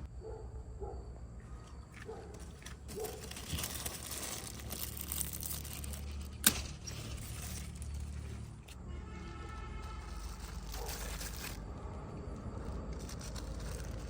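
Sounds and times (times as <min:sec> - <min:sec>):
rustling and crinkling handling: 0:01.4 - 0:14.0
small crackles: 0:01.5 - 0:14.0.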